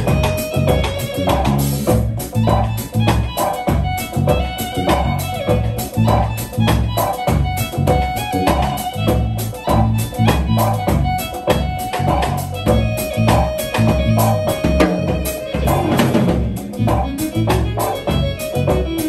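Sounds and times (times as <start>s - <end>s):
drum kit: 0.0s - 19.0s
electric bass line: 0.0s - 19.0s
keyboard chords: 0.0s - 19.0s.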